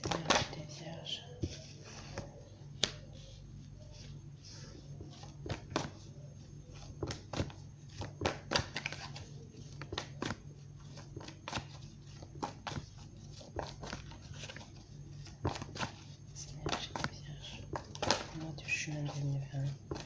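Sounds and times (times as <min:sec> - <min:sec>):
steady low hum: 0:00.0 - 0:20.0
cards being shuffled: 0:01.4 - 0:04.2, 0:04.8 - 0:20.0.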